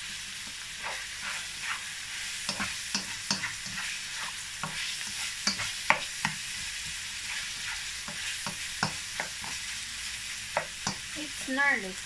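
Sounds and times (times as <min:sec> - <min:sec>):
meat sizzling in a frying pan: 0:00.0 - 0:12.0
spatula clicking and scraping pan: 0:00.4 - 0:09.8, 0:10.4 - 0:11.8.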